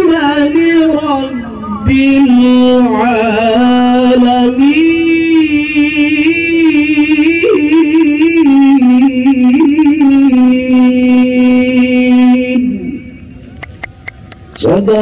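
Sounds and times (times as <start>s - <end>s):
man chanting melodic recitation: 0.0s - 13.5s, 14.5s - 15.0s.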